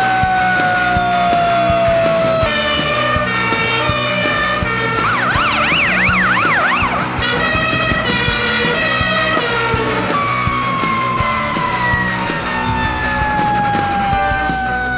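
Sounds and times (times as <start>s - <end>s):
background music: 0.0s - 14.9s
electronic siren wailing and yelping: 0.0s - 14.9s.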